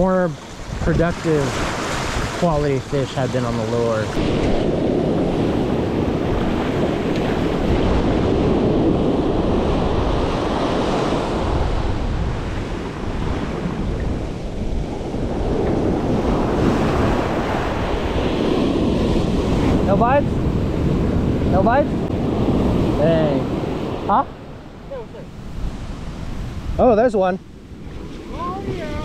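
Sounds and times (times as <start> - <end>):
ocean surf breaking: 0.0 - 29.0
wind on microphone: 0.0 - 29.0.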